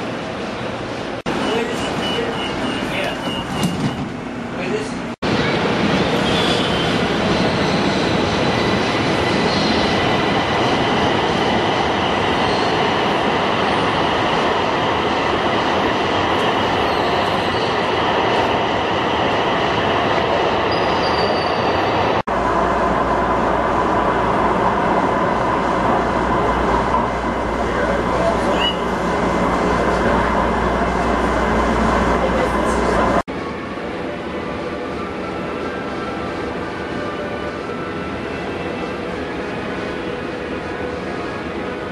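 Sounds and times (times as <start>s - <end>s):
train rumbling through tunnel: 0.0s - 41.9s
train running noise with whining: 0.0s - 41.9s.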